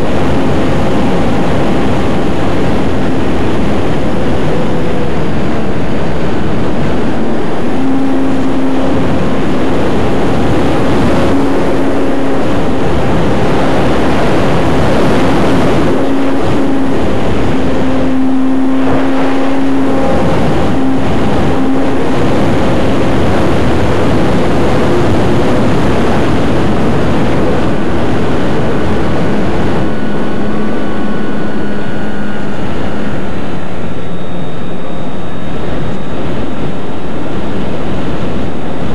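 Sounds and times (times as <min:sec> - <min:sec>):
model airplane motor droning: 0:00.0 - 0:38.9
wind rushing over camera: 0:00.0 - 0:38.9.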